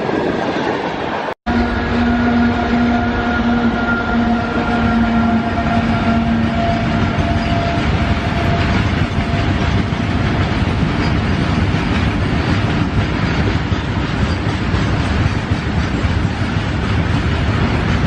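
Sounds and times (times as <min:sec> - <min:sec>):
locomotive hum: 0:00.0 - 0:18.0
freight train wheels clattering: 0:02.0 - 0:18.0.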